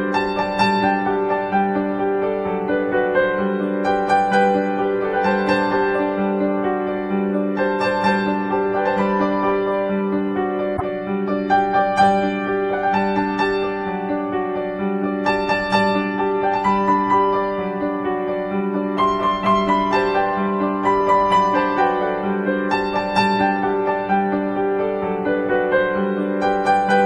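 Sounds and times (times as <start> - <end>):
slow keyboard melody: 0.0 - 27.0.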